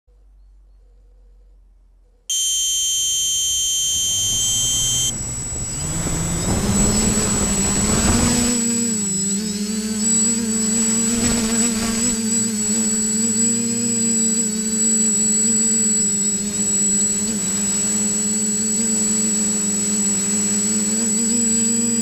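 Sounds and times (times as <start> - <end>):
buzzer arming tone: 2.3 - 22.0
quadcopter motors buzzing: 2.3 - 22.0
thin high whine: 2.3 - 22.0.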